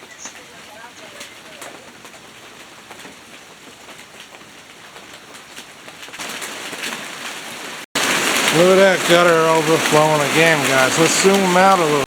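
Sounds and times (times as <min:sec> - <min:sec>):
heavy rain falling: 0:00.0 - 0:12.0
raindrops striking close by: 0:00.0 - 0:12.0.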